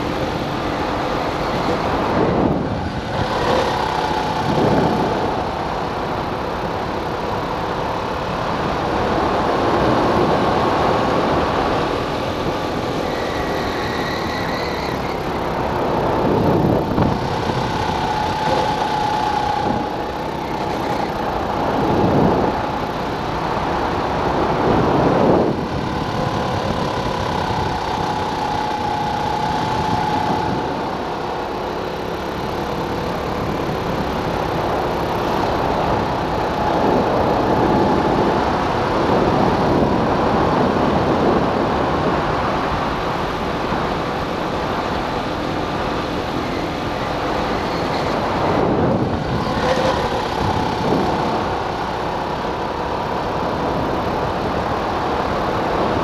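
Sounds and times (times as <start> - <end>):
go-kart engine running: 0.0 - 56.0
rushing wind noise: 0.0 - 56.0.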